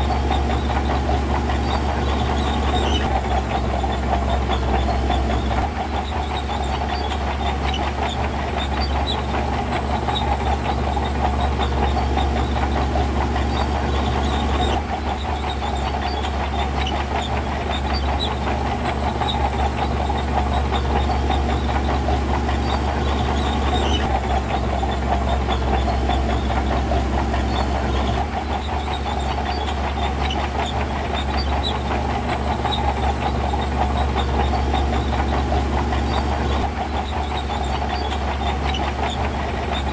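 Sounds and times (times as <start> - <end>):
dense rattling clatter: 0.0 - 39.9
diesel engine of earthmoving machine: 0.0 - 39.9.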